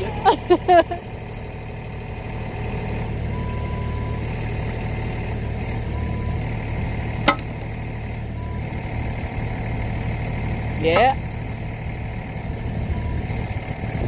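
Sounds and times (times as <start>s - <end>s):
excavator engine idling: 0.0s - 14.0s.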